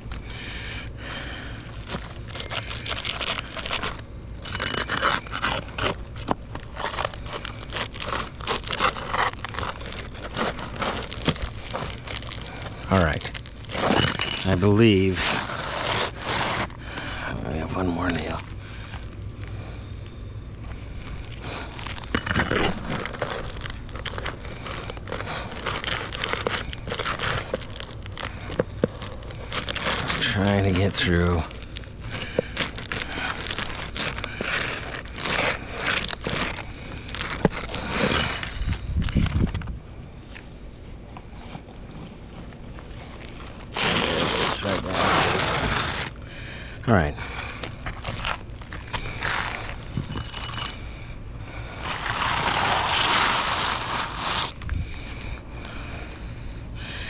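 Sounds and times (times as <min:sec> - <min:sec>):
hand tool scraping under shingle: 0:01.1 - 0:46.2, 0:47.3 - 0:55.0.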